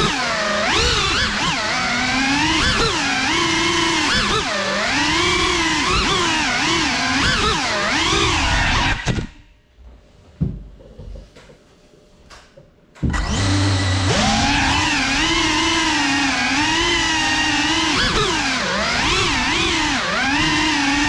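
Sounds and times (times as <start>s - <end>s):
drone motors whining: 0.0s - 9.4s, 13.0s - 21.0s.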